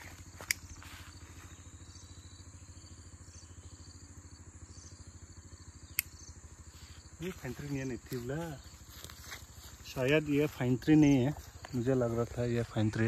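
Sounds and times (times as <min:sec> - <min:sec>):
faint insects buzzing: 0:00.0 - 0:13.0
vehicle engine idling: 0:00.0 - 0:13.0.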